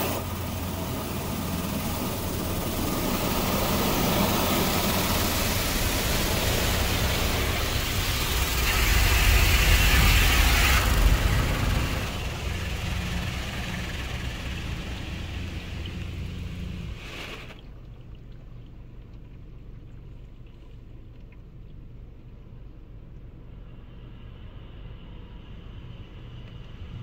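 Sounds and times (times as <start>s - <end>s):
water jets drumming on car: 0.0s - 22.6s
low steady hum: 0.0s - 27.0s.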